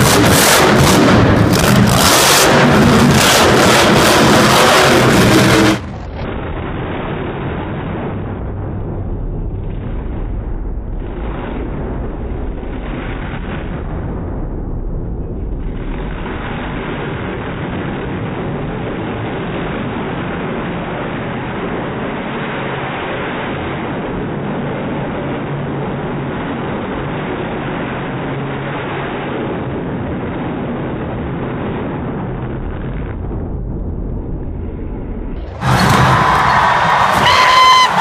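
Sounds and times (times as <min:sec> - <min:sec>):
monster truck engine at high revs: 0:00.0 - 0:08.4, 0:15.3 - 0:34.1, 0:34.7 - 0:38.0.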